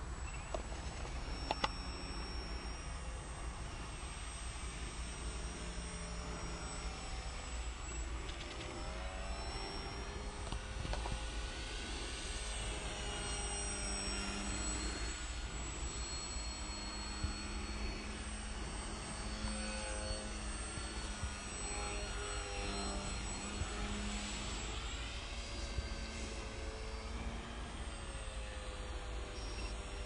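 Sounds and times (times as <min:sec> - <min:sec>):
model aeroplane motor whining: 0:00.0 - 0:30.0.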